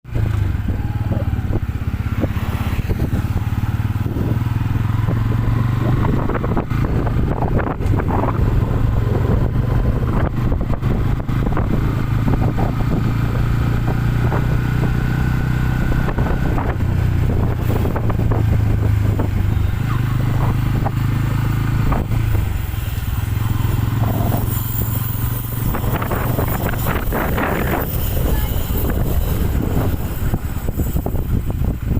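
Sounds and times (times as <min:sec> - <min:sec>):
motorcycle engine running: 0:00.1 - 0:31.9.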